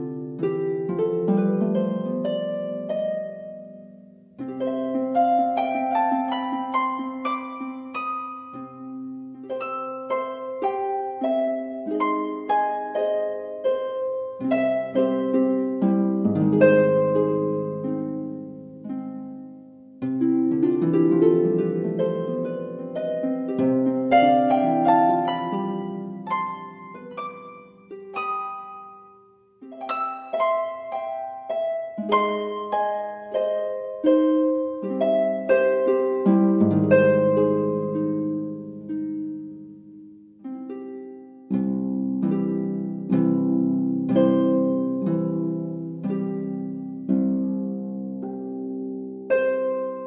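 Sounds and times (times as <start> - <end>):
plucked ringing instrumental music: 0.0 - 50.0.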